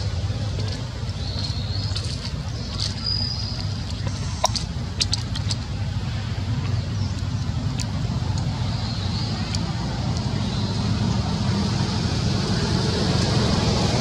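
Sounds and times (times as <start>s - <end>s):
low rumble of traffic: 0.0s - 14.0s.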